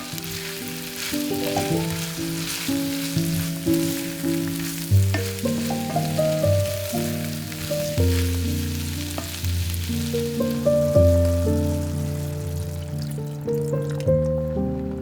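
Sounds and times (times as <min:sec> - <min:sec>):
food sizzling in a pan: 0:00.0 - 0:14.4
background music: 0:00.0 - 0:15.0.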